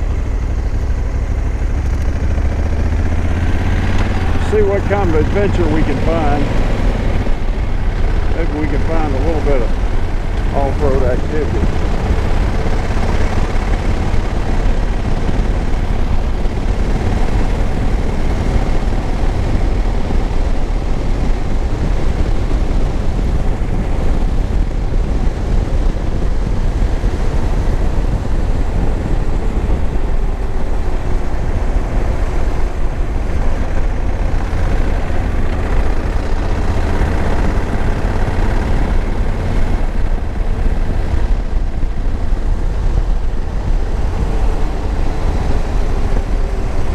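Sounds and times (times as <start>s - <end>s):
motorcycle engine cruising: 0.0s - 46.9s
wind rushing over microphone: 0.0s - 46.9s.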